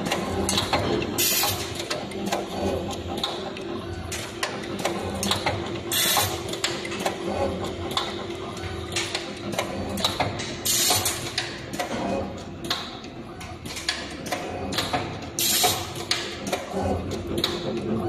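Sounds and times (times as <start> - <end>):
machine clicks and knocks: 0.0 - 18.0
machine motor hum: 0.0 - 18.0.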